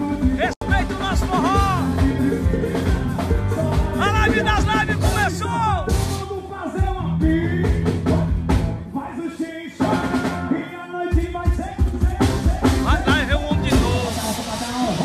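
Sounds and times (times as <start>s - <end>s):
steady drum beat: 0.0s - 9.0s, 9.8s - 15.0s
band music with singer: 0.0s - 15.0s.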